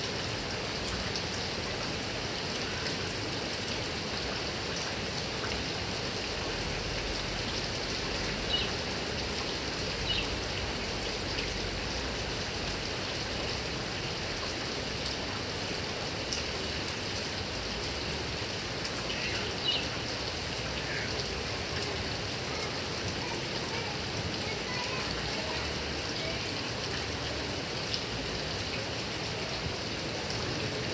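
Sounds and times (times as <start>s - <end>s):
heavy rain on grass and trees: 0.0s - 30.9s.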